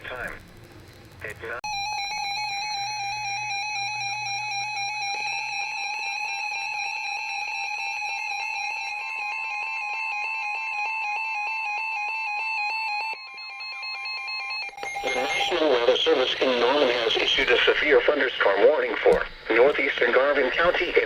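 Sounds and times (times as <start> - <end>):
steady warning tone: 0.0 - 21.0
warbling electronic alarm beeping: 1.6 - 21.0.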